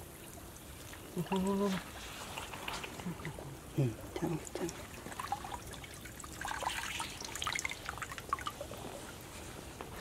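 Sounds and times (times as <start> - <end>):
water dripping and splashing: 0.0 - 10.0.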